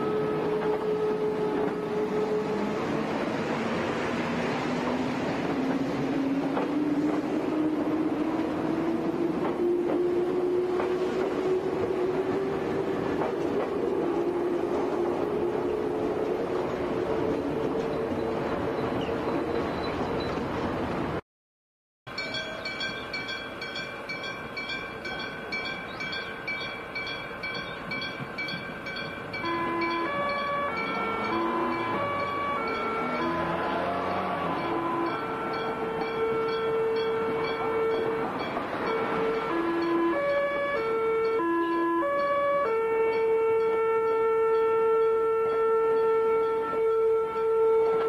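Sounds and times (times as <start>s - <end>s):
electric train approaching: 0.0s - 21.2s, 22.1s - 48.0s.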